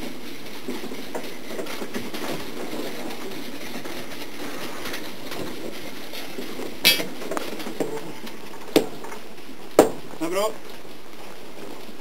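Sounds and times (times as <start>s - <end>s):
faint fire crackles: 0.0s - 12.0s.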